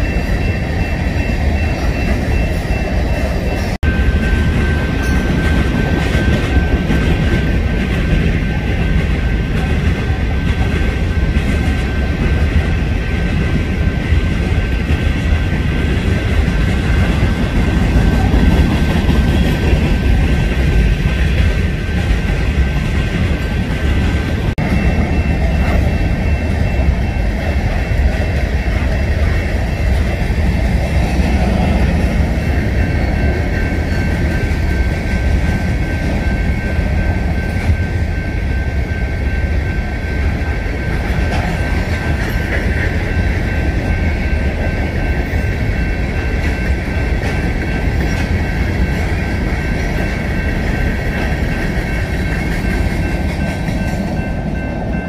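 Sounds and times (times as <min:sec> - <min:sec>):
high ringing tone: 0:00.0 - 0:07.7, 0:08.3 - 0:55.0
train wheels clattering on rail: 0:00.0 - 0:55.0.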